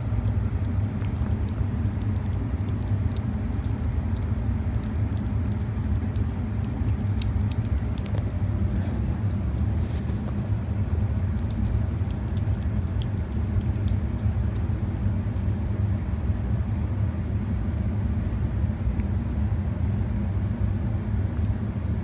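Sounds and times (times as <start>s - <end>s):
kitten eating wet food: 0.0s - 19.6s
steady low rumble: 0.0s - 22.0s.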